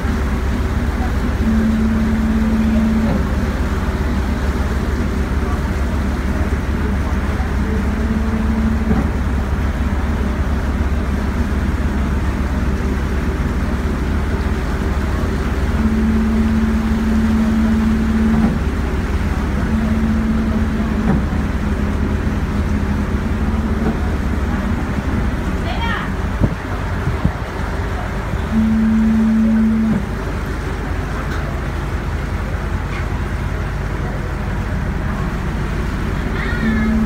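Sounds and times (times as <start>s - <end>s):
boat engines droning: 0.0s - 37.0s
higher steady hum: 0.0s - 37.0s.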